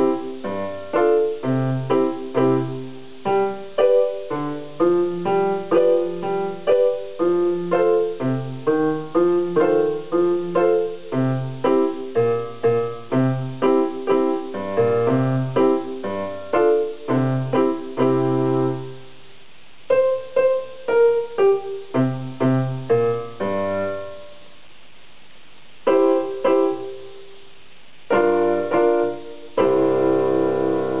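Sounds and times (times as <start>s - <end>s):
electronic keyboard piano notes: 0.0s - 19.0s, 19.9s - 24.4s, 25.9s - 27.1s, 28.1s - 31.0s.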